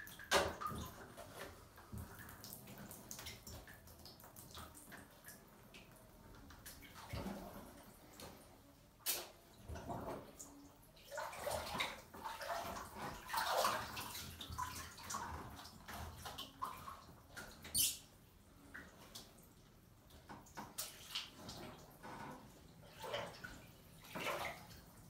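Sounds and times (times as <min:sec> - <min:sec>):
bathwater splashing: 0:00.0 - 0:25.0.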